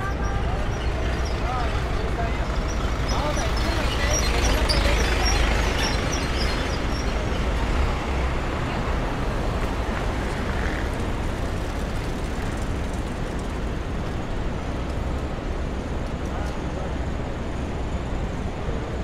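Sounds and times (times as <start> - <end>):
city street traffic hum: 0.0 - 19.0.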